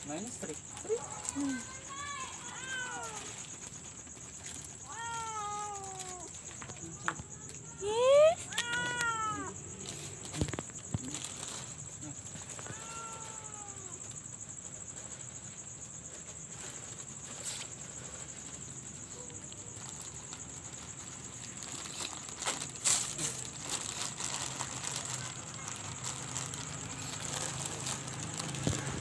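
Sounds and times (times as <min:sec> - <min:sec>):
night insects chirring: 0:00.0 - 0:29.0
crackles and clicks: 0:00.2 - 0:29.0.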